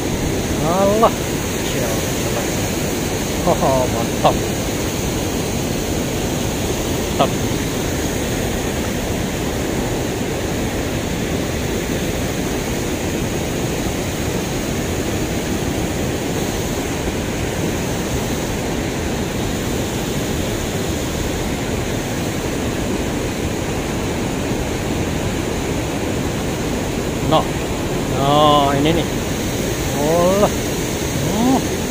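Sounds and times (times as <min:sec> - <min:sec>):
river water pouring over weir: 0:00.0 - 0:31.9.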